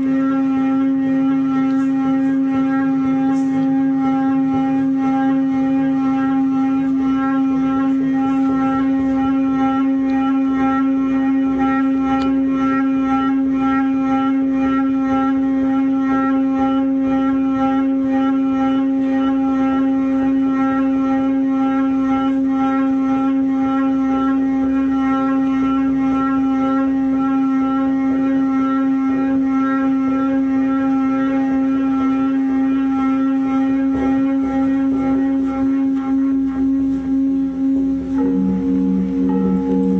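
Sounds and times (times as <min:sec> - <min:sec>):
sustained musical drone: 0:00.0 - 0:39.9.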